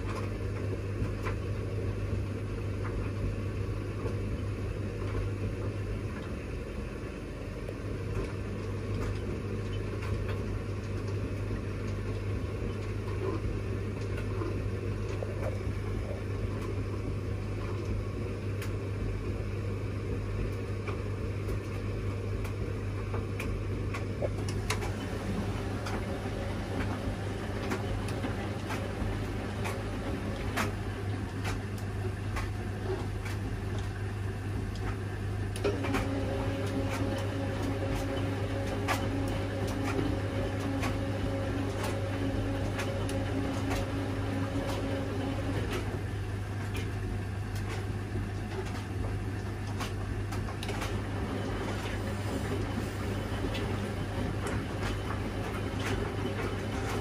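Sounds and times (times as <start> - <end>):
washing machine running: 0.0 - 57.0.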